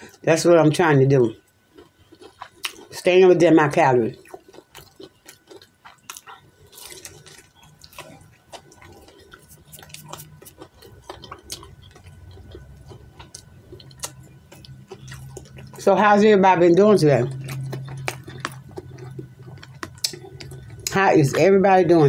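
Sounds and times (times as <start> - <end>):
faint low hum: 0.0 - 22.0
person chewing food: 1.3 - 3.0, 4.1 - 22.0.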